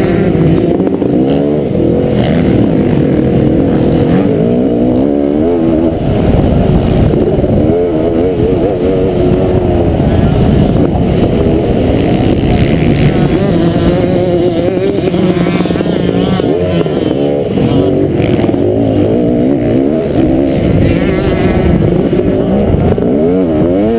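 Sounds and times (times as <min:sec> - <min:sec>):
motocross motorcycle engines revving: 0:00.0 - 0:23.9.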